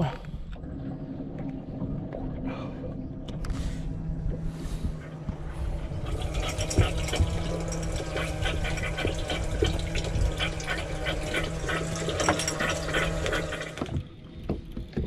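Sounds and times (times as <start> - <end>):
pump motor hum: 0.0 - 15.0
water gushing and splashing: 0.0 - 15.0.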